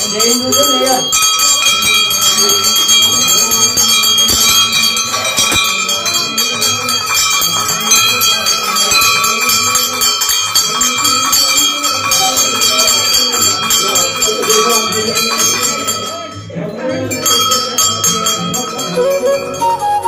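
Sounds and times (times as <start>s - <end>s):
temple bells ringing: 0.0s - 20.0s.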